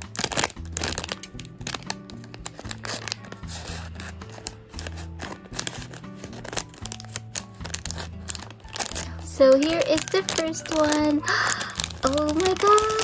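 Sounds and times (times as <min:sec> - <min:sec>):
background music: 0:00.0 - 0:13.0
plastic packaging crinkling: 0:00.0 - 0:13.0
scissors cutting plastic: 0:00.0 - 0:13.0.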